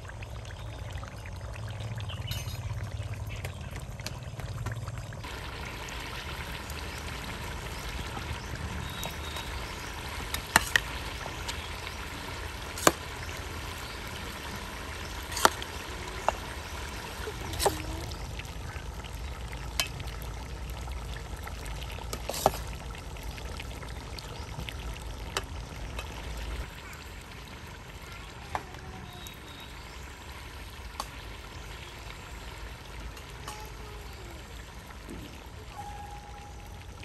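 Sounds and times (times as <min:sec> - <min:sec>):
steady hiss of cooking: 0:05.1 - 0:36.1.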